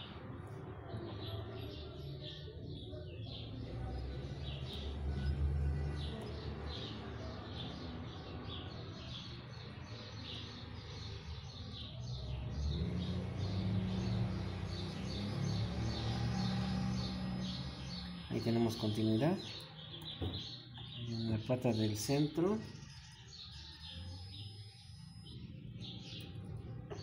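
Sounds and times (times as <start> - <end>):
bird chirping: 0.8 - 27.0.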